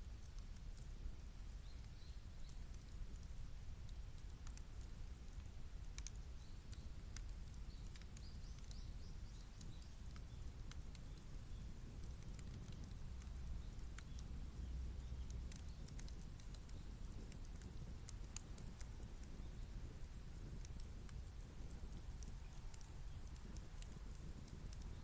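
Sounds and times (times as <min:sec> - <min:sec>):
fire crackling and popping: 0:00.0 - 0:25.0
low rumble of fire: 0:00.0 - 0:25.0.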